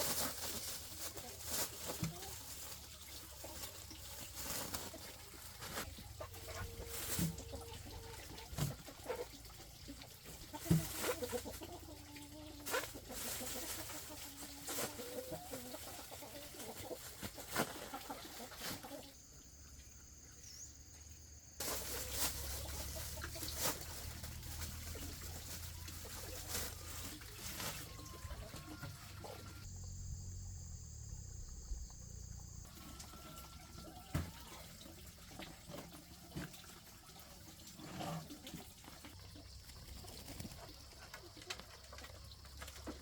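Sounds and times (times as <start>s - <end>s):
chickens clucking: 0.0s - 20.3s, 21.6s - 29.7s, 31.0s - 36.6s, 37.2s - 43.0s.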